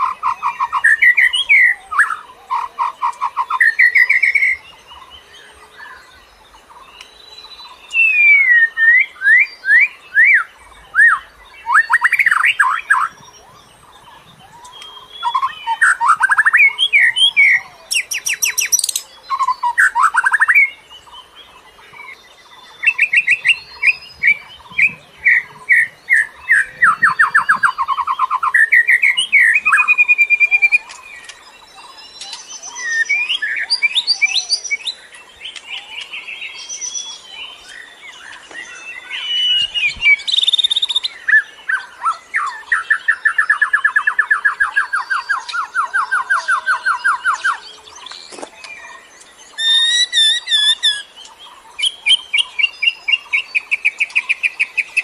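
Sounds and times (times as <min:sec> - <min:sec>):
songbird chirps and trills: 0:00.0 - 0:55.0.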